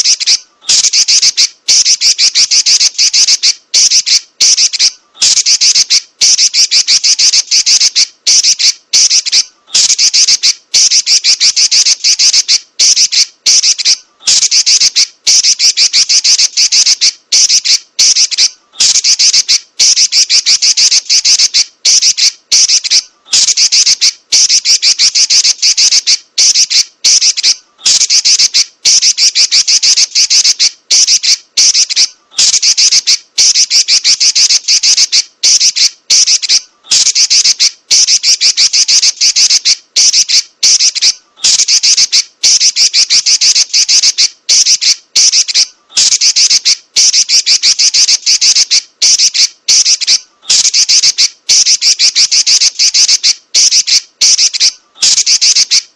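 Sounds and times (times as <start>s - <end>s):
bird chatter trills: 0.0s - 55.9s.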